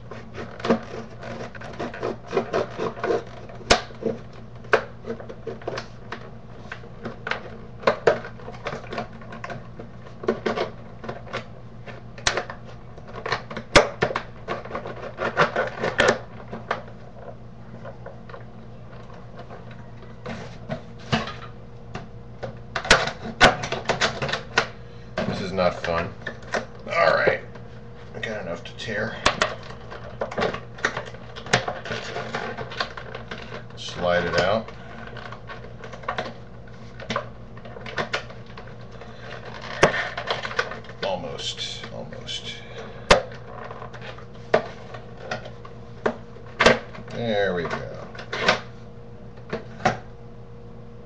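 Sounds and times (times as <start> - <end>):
stiff plastic crackling and snapping: 0.0 - 48.7, 49.3 - 50.2
steady low hum: 0.0 - 51.0.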